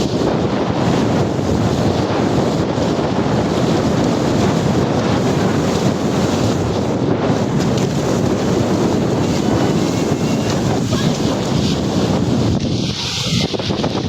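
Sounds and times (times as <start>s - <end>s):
rushing water: 0.0s - 14.0s
wind buffeting microphone: 0.0s - 14.0s.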